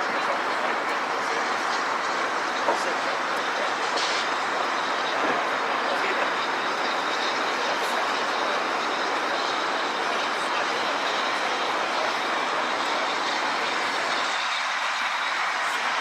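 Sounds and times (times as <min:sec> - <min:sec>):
train rushing: 0:00.0 - 0:16.0.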